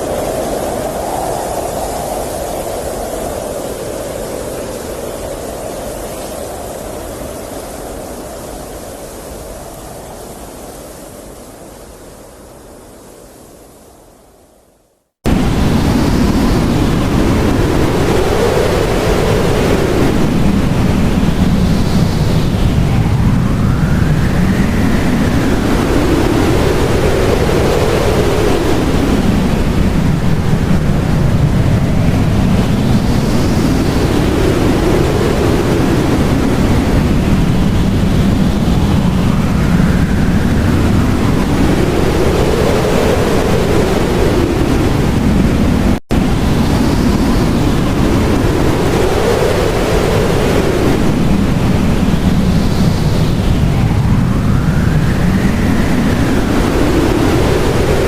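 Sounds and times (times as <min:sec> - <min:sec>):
blizzard wind whistling: 0:00.0 - 0:58.0.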